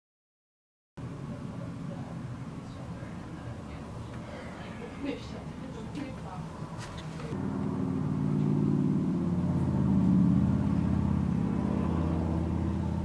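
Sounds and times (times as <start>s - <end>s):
vehicle engine humming: 1.0s - 13.0s.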